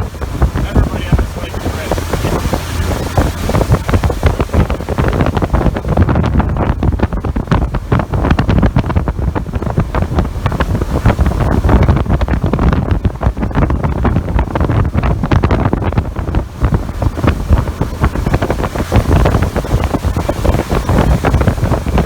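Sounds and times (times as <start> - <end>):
motorboat rumbling: 0.0 - 22.0
wind buffeting microphone: 0.0 - 22.0.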